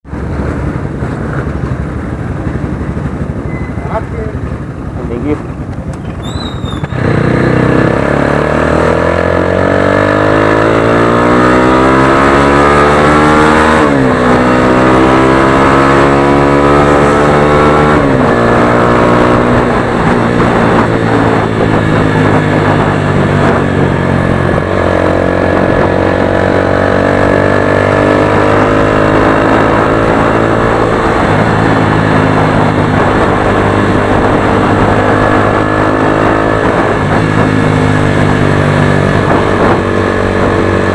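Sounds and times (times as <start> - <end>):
motorcycle engine accelerating: 0.1 - 40.9.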